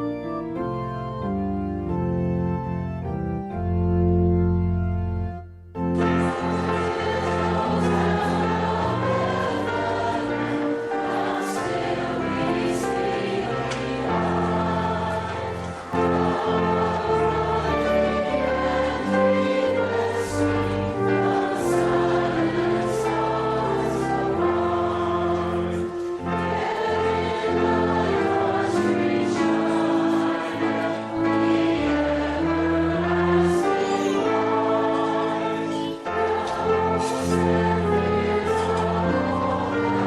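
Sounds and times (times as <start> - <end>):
choir singing church music: 0.0 - 40.0.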